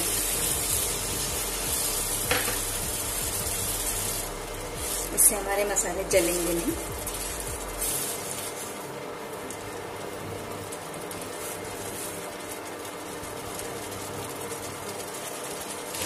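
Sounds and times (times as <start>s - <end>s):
sauce bubbling and sizzling in pan: 0.0s - 16.0s
spatula stirring: 0.0s - 16.0s.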